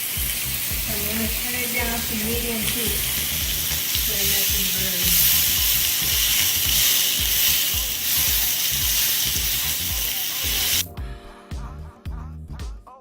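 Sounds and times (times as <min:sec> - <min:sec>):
steak sizzling in a pan: 0:00.0 - 0:10.9
background music with steady beat: 0:00.0 - 0:13.0.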